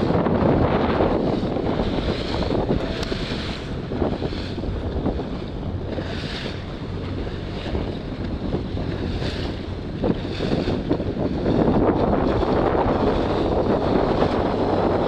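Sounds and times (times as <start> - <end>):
waves splashing: 0.0 - 15.0
wind buffeting microphone: 0.0 - 15.0.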